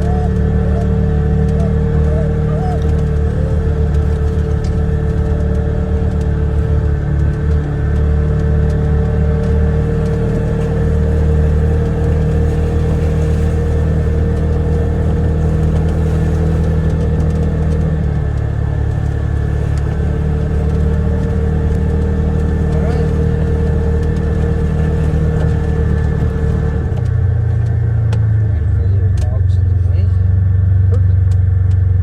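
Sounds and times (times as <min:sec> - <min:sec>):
side-by-side engine running: 0:00.0 - 0:32.0.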